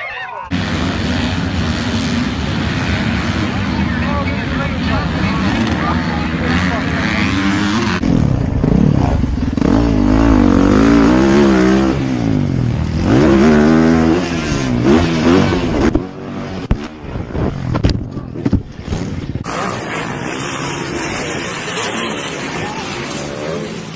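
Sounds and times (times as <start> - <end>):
dirt bike engine revving: 0.5 - 17.7, 18.4 - 23.9.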